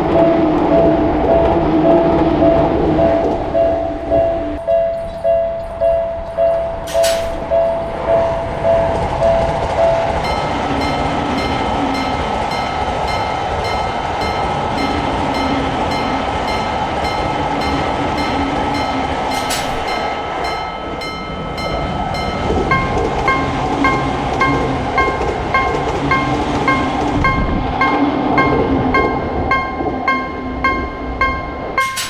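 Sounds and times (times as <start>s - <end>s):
railroad crossing bell clanging: 0.0s - 32.0s
train rumbling past: 0.0s - 32.0s
high repeating ringing: 4.7s - 32.0s.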